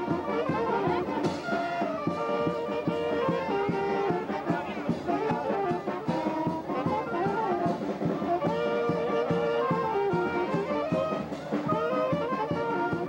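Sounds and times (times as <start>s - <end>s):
brass horns playing: 0.0s - 13.0s
steady drum beat: 0.0s - 13.0s.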